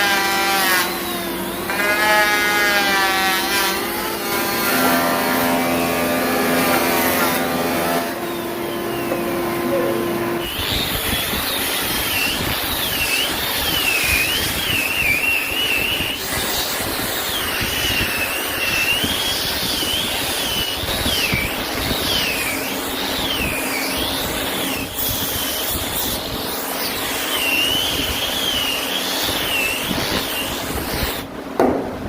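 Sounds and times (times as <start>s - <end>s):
power tool whining on wood: 0.0s - 31.3s.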